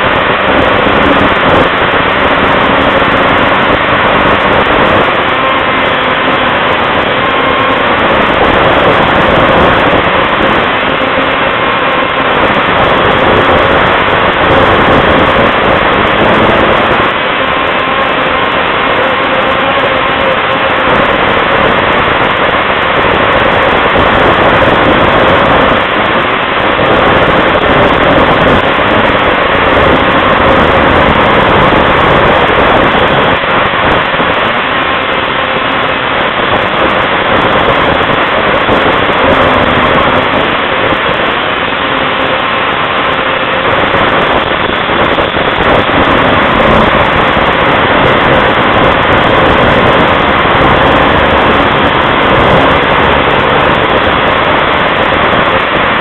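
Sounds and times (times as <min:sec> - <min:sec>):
snowmobile engine running: 0:00.0 - 0:56.0
wind rush on microphone: 0:00.0 - 0:56.0.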